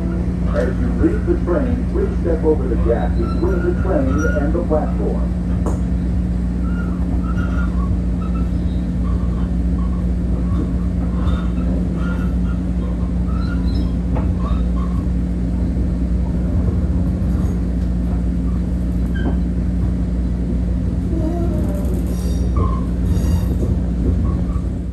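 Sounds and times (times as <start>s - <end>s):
constant hum: 0.0s - 24.9s
train wheels rumbling on track: 0.0s - 24.9s.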